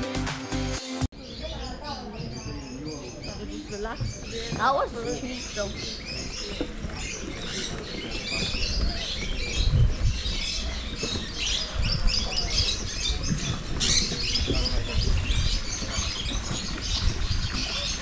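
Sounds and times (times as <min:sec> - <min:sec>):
small animals chirping and squeaking: 0:01.2 - 0:18.0.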